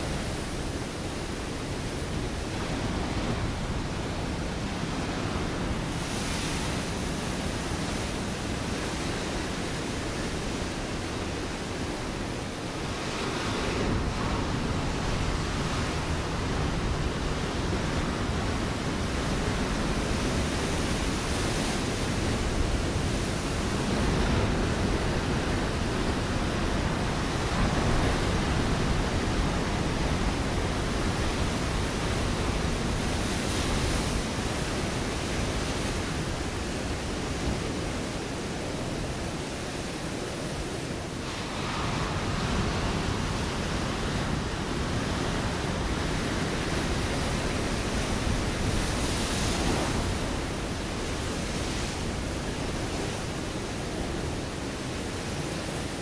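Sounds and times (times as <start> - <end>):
ocean waves on rocky shore: 0.0 - 56.0.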